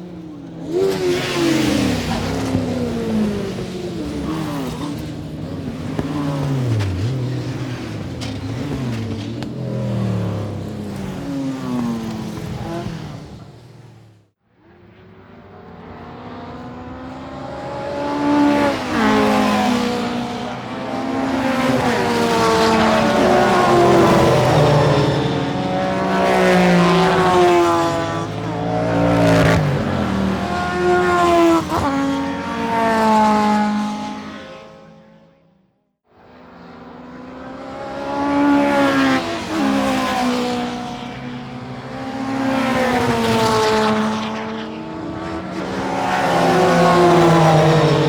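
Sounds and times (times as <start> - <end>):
racing car engines: 0.0 - 48.0.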